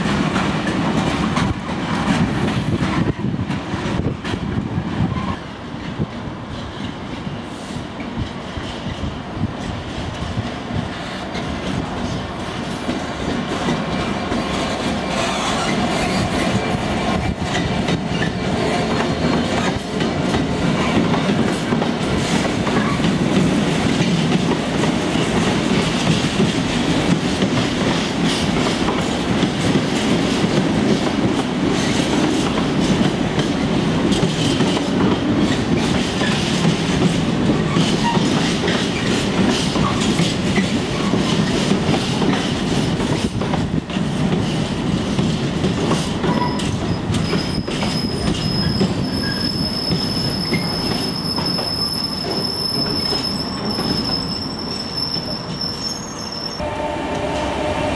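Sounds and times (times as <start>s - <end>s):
wheels clickety-clack over rail joints: 0.0s - 56.0s
freight train rumbling past: 0.0s - 57.9s.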